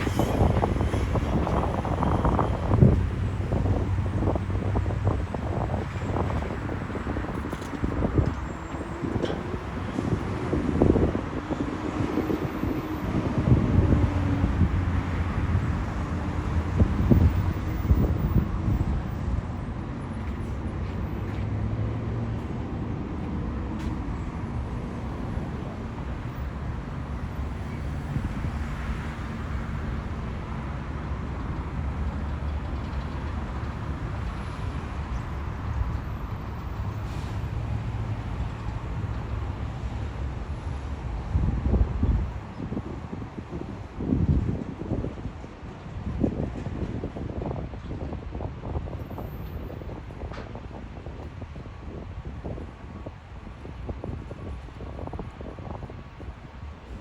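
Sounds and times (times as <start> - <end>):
city traffic: 0.0 - 57.0.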